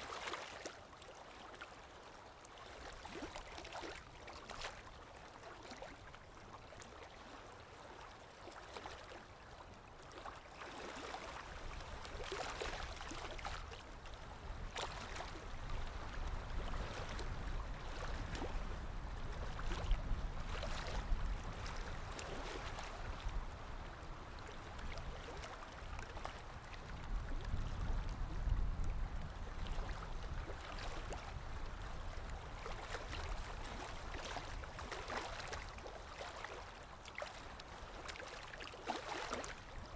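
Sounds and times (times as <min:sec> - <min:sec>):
stream water running and splashing: 0:00.0 - 0:39.9.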